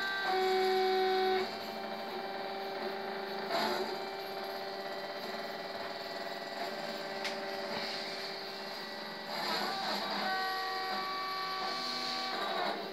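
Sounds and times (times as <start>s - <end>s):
stepper motors whining: 0.0s - 12.9s.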